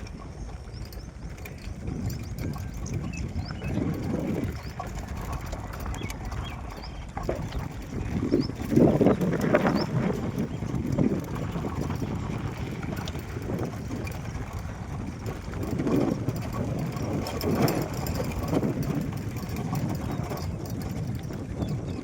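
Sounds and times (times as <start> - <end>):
vehicle engine running: 0.0 - 20.8
wind noise on microphone: 0.0 - 22.0.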